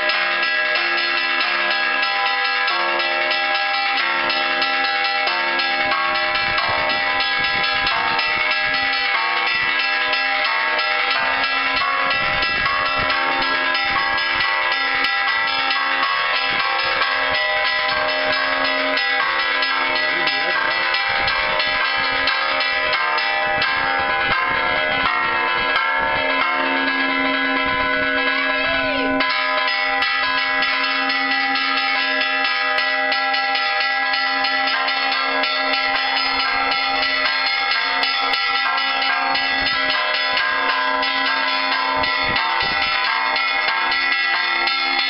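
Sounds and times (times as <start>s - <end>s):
church bells pealing: 0.0s - 45.0s
deeper bell tone: 0.0s - 45.0s.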